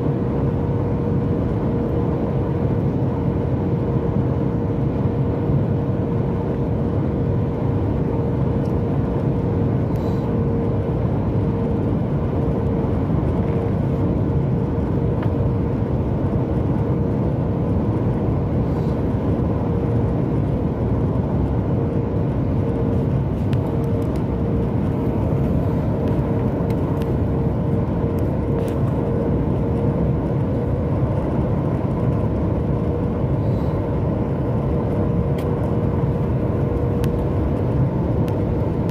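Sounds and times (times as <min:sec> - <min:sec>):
airplane cabin roar: 0:00.0 - 0:38.9
steady whine: 0:00.0 - 0:38.9.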